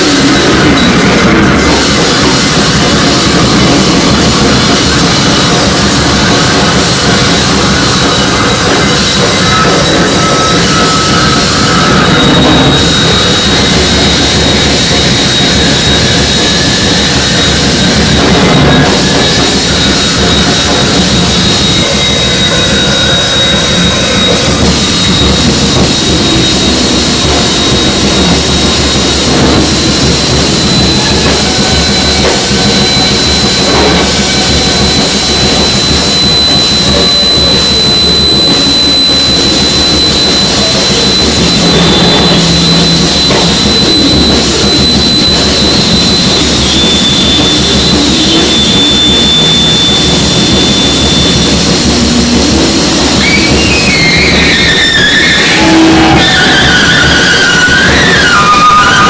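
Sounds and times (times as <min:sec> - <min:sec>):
distorted noise music: 0:00.0 - 0:59.0
steady high-pitched tone: 0:00.0 - 0:59.0.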